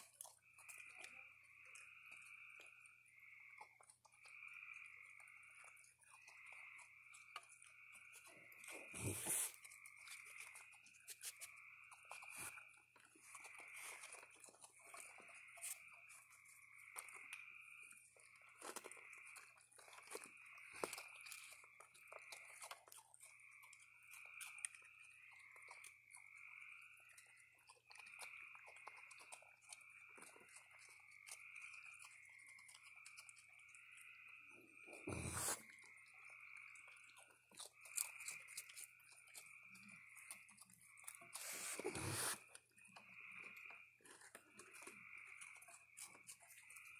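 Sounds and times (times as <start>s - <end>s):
raccoons crunching food: 0.0s - 46.9s.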